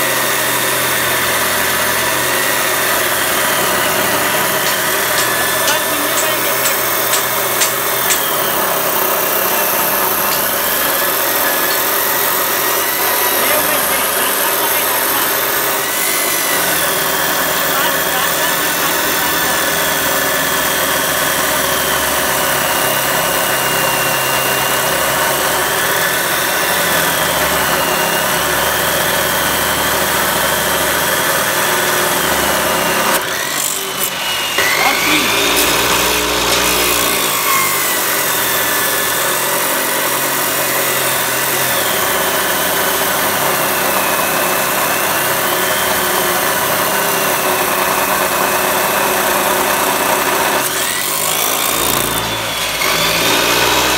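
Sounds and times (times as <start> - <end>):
chop saw grinding metal: 0.0 - 53.9.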